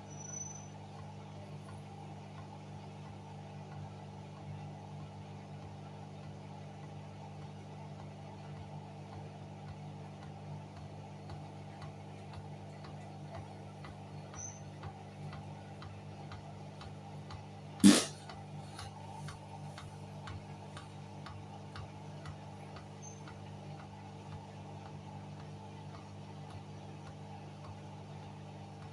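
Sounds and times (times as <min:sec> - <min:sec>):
washing machine humming: 0:00.0 - 0:28.9.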